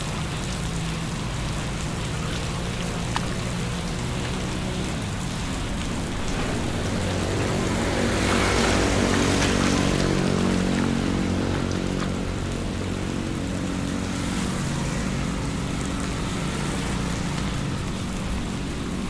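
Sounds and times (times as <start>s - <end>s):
steady rain: 0.0s - 19.0s
vehicle engine running: 0.0s - 19.0s.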